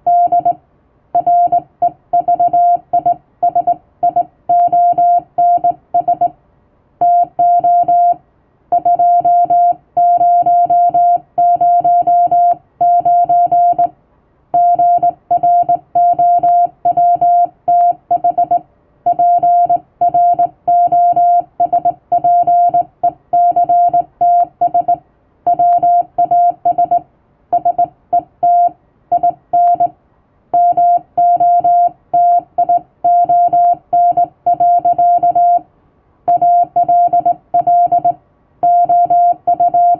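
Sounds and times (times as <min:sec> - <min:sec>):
morse code tone: 0:01.2 - 0:06.3, 0:07.0 - 0:08.2, 0:08.8 - 0:13.9, 0:14.6 - 0:29.9, 0:30.6 - 0:35.6, 0:36.3 - 0:39.9.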